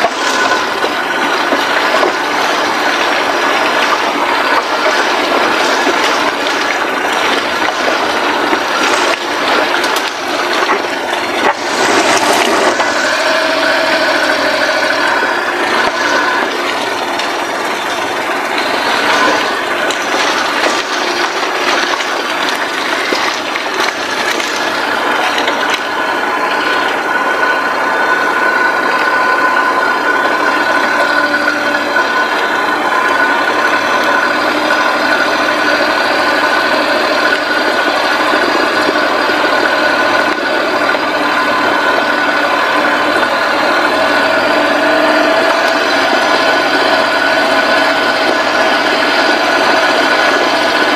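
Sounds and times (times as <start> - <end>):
faint steady whine: 0.0 - 50.9
small engine running: 0.0 - 50.9
tyres churning through mud: 0.0 - 50.9.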